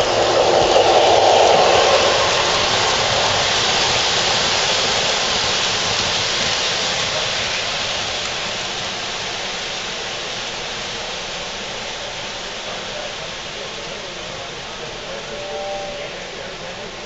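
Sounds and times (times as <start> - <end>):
model trains rumbling on track: 0.0 - 17.0.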